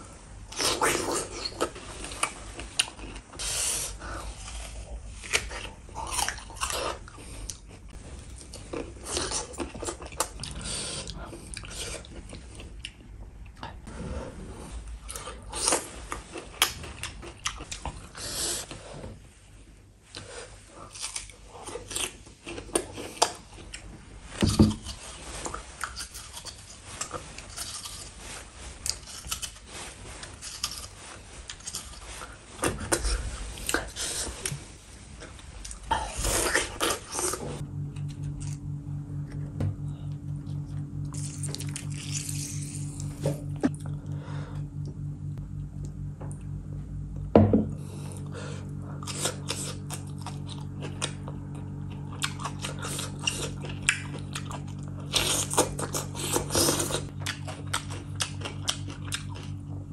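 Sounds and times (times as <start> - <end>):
crunchy fruit chewing: 0.5 - 13.7, 15.0 - 18.8, 20.1 - 34.6, 35.2 - 59.9.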